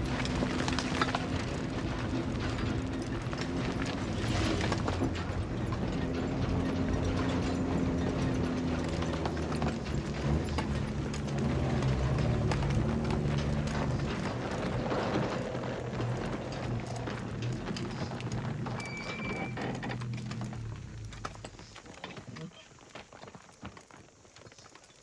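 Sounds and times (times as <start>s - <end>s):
stones crunching under tyres: 0.0s - 6.1s, 8.8s - 25.0s
truck body rattling and knocking: 0.0s - 21.8s
truck engine running low: 0.0s - 21.8s.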